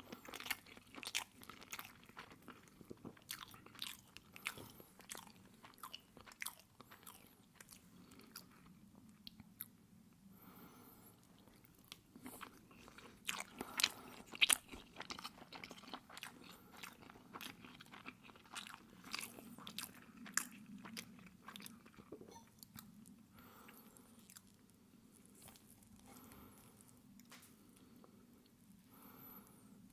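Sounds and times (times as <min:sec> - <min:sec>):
wet chewing and mouth smacks: 0:00.1 - 0:09.8, 0:11.3 - 0:28.6.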